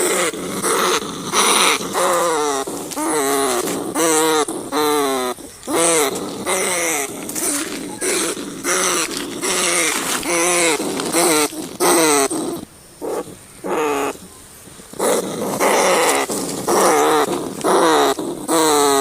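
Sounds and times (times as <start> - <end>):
rats squealing: 0.0 - 19.0.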